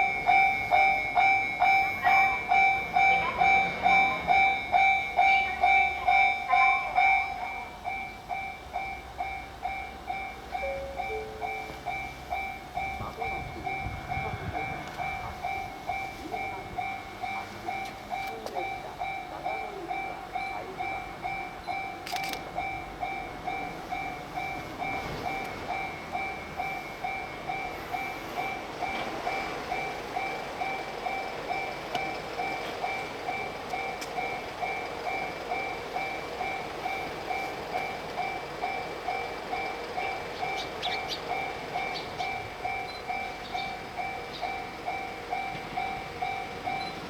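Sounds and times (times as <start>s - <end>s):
level-crossing warning bell ringing: 0.0s - 47.0s
train rumble: 0.0s - 47.0s.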